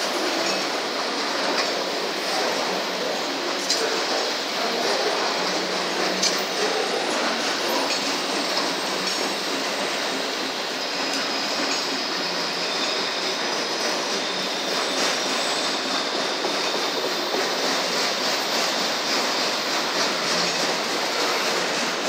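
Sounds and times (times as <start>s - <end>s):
freight cars rolling on rails: 0.0s - 22.0s
high wheel squeal: 0.1s - 22.0s.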